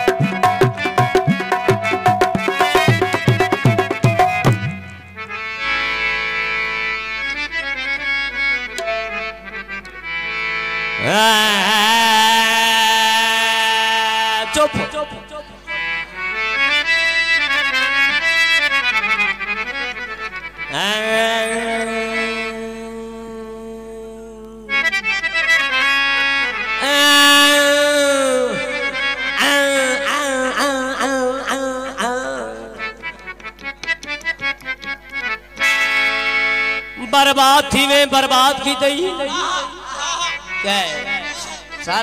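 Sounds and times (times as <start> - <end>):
harmonium playing: 0.0 - 42.0.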